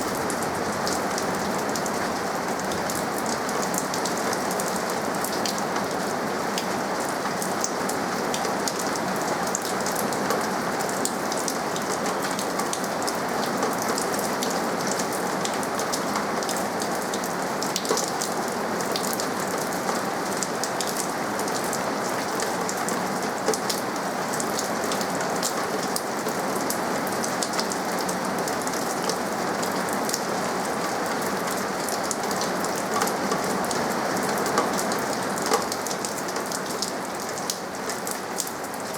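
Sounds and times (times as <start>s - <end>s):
rain falling: 0.0s - 38.9s
raindrops ticking on hard surfaces: 0.0s - 38.9s.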